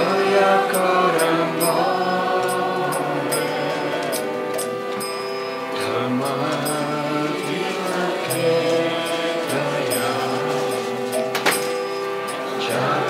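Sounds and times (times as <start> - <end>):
hand cymbals clinking: 0.0 - 12.7
harmonium chords: 0.0 - 13.0
voices chanting: 0.0 - 13.0.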